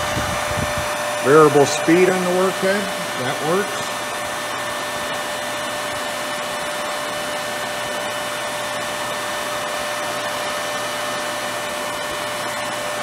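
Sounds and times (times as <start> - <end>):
grinding machine whirring: 0.0 - 13.0.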